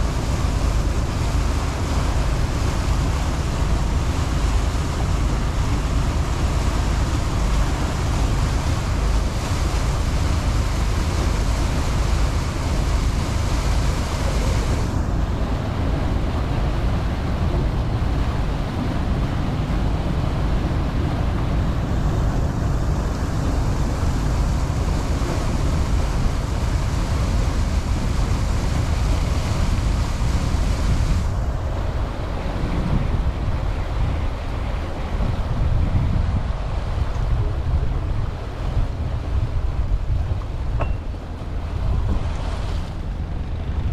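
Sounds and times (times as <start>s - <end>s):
motorboat engine rumble: 0.0s - 43.9s
rushing water: 0.0s - 43.9s
wind buffeting microphone: 0.0s - 43.9s.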